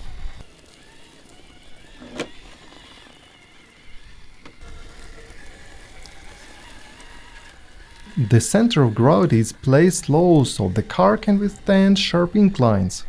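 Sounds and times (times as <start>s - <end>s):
electric motor whining: 0.0s - 12.9s.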